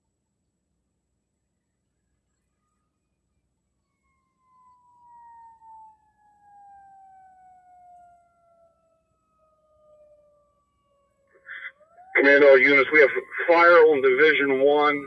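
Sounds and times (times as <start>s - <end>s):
faint siren winding down: 1.6s - 15.0s.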